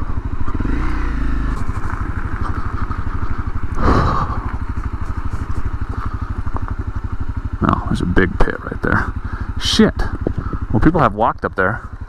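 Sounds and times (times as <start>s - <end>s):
motorcycle engine running slowly: 0.0s - 12.0s.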